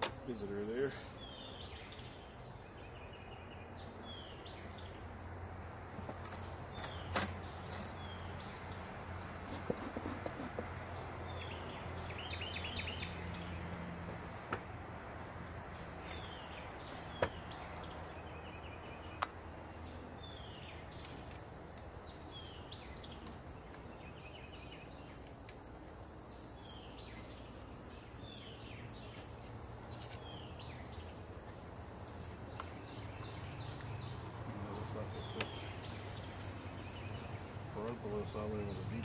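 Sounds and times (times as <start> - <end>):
birds chirping: 0.0 - 39.0
honeybees humming: 0.0 - 39.0.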